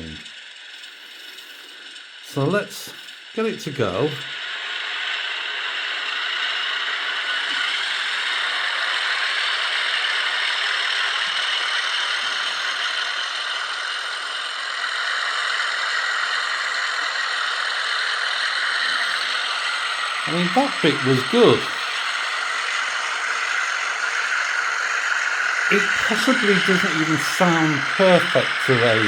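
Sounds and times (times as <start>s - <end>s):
model locomotive engine drone: 0.0s - 29.0s.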